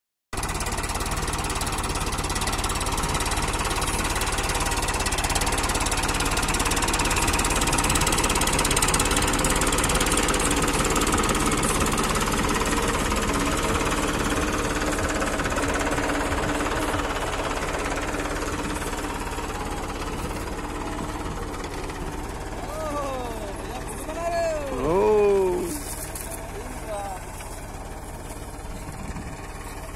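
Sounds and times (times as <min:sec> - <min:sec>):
tractor diesel engine under load: 0:00.3 - 0:29.9.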